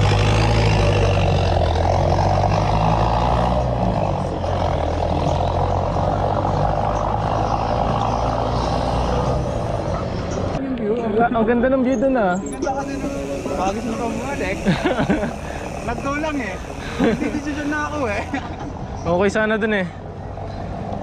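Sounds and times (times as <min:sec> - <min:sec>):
vehicle engine running: 0:00.0 - 0:10.6, 0:12.7 - 0:19.0.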